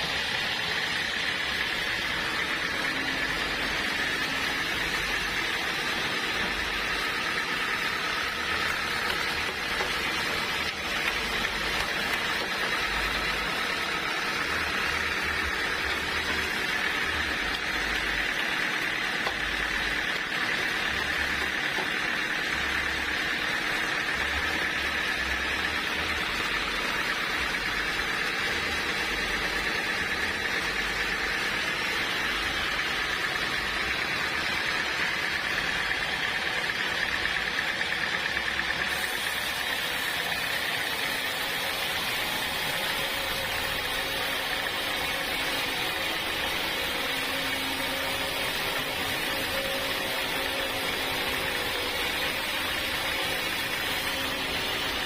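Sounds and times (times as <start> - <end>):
saw cutting log: 0.0 - 55.0.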